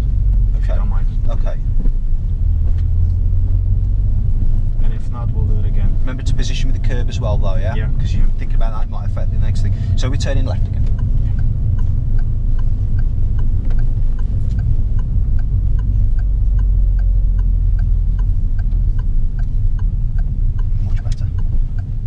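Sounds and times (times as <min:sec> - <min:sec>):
engine and road noise in cabin: 0:00.0 - 0:22.0
turn signal ticking: 0:00.0 - 0:22.0.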